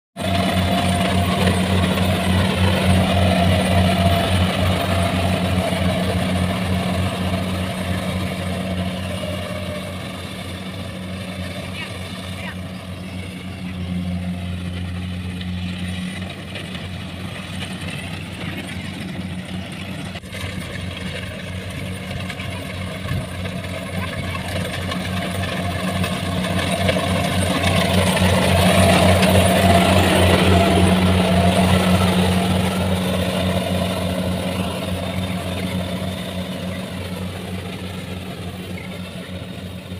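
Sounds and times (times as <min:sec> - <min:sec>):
combine harvester diesel engine: 0:00.2 - 0:39.9.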